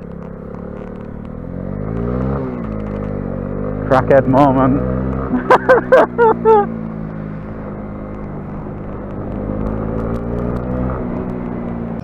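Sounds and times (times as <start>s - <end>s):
motorcycle engine revving: 0.0s - 12.0s
wind and road noise: 0.0s - 12.0s.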